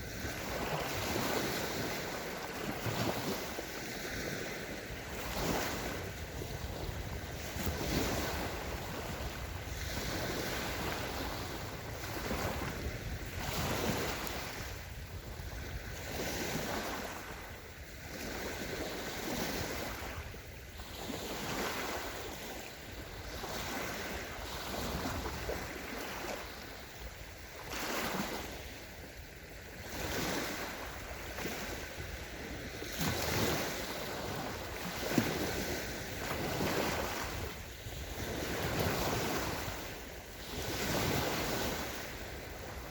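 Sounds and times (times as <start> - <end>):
small waves breaking on sandy shore: 0.0 - 42.9
wind rumbling on microphone: 0.0 - 42.9.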